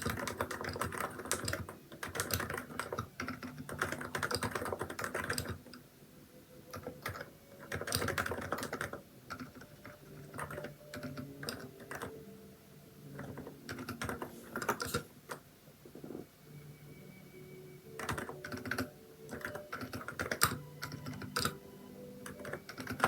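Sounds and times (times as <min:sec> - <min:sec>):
keyboard typing: 0:00.0 - 0:05.8, 0:06.6 - 0:12.3, 0:13.0 - 0:16.3, 0:17.9 - 0:23.0.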